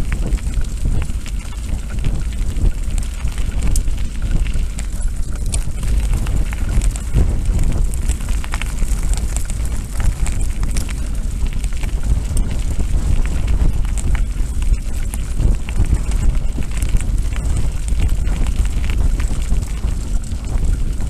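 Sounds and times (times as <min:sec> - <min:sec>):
tyres rattling on gravel: 0:00.0 - 0:21.0
wind rumbling on microphone: 0:00.0 - 0:21.0.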